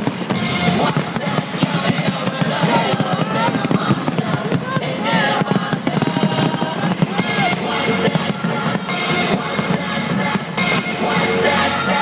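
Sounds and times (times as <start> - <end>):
fireworks crackling bangs: 0.0 - 12.0
music: 0.0 - 12.0.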